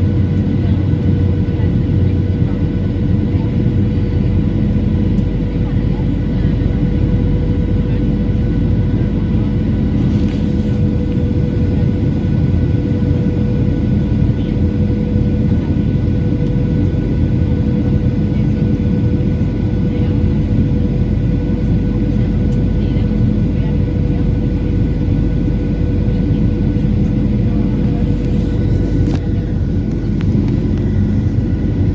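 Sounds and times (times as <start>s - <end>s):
airliner engines rumbling: 0.0s - 31.9s
constant hum tone: 0.0s - 31.9s.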